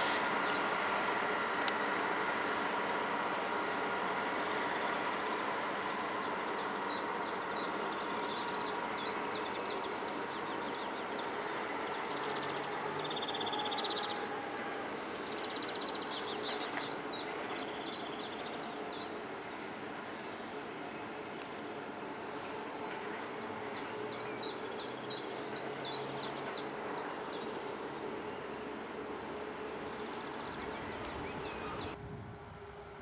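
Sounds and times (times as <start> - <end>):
diesel locomotive drone: 0.0 - 33.0.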